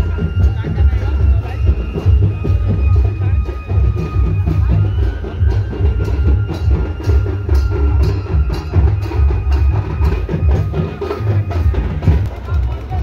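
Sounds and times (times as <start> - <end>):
drum-driven music with booming beat: 0.0 - 13.0.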